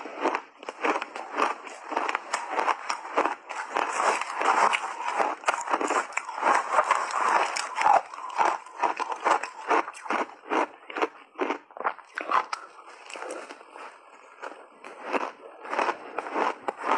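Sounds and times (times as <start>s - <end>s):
crunchy ice being chewed: 0.0s - 16.9s.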